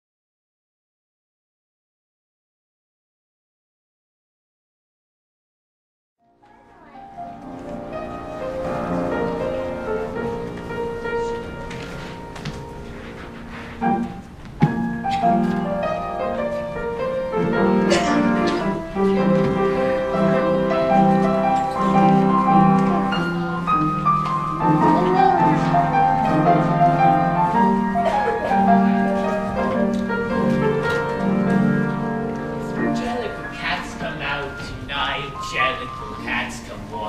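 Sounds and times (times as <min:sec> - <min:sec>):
keyboard-led instrumental music: 0:06.4 - 0:37.0.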